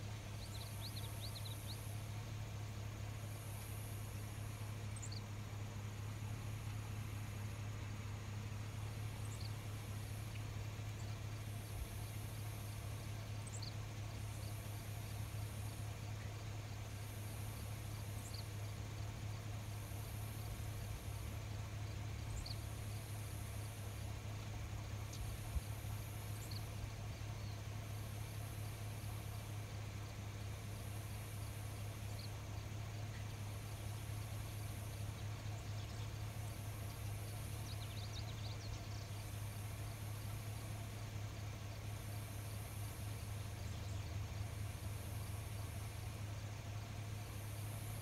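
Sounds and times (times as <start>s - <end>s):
steady low hum: 0.0s - 48.0s
insects trilling: 0.3s - 48.0s.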